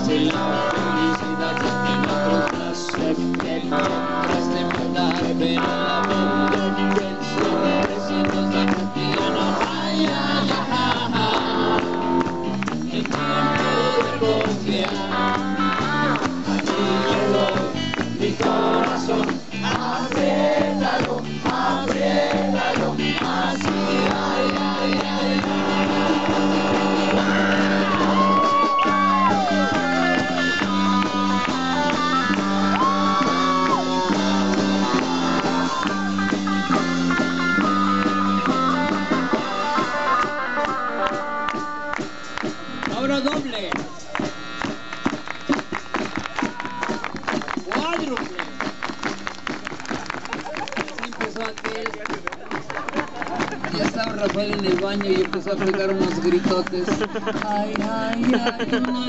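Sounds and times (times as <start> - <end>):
rock band playing live: 0.0 - 43.6, 53.5 - 59.0.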